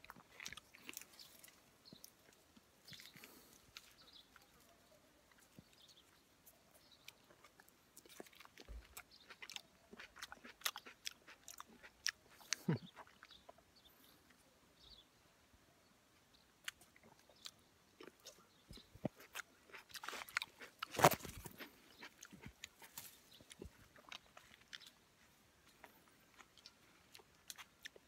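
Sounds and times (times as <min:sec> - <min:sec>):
chewing and biting fruit: 0:00.0 - 0:04.6, 0:06.9 - 0:14.4, 0:16.6 - 0:28.0.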